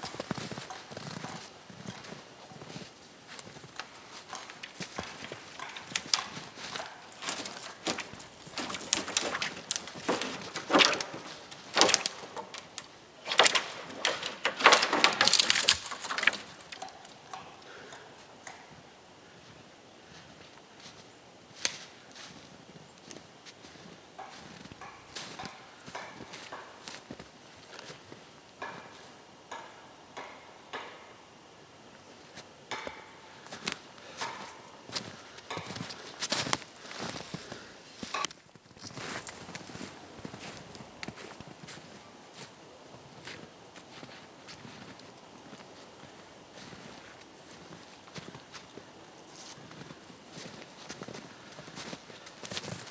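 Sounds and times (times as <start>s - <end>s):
footsteps crunching through snow: 0.0s - 17.9s, 18.7s - 29.2s, 32.0s - 52.9s.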